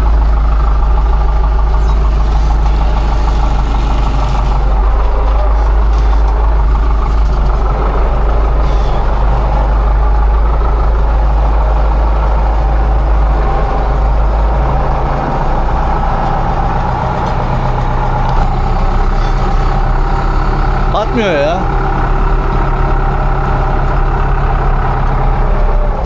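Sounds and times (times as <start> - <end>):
farm machinery engine running: 0.0 - 26.0.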